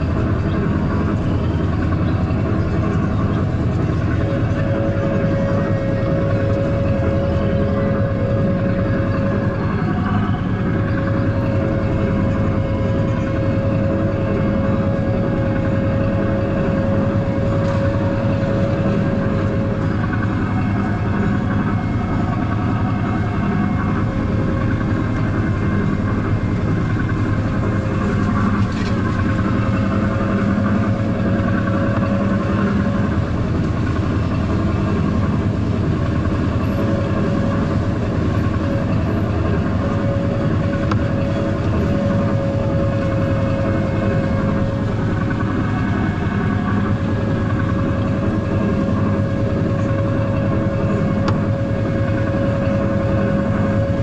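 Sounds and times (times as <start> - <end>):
motor drone: 0.0 - 54.0.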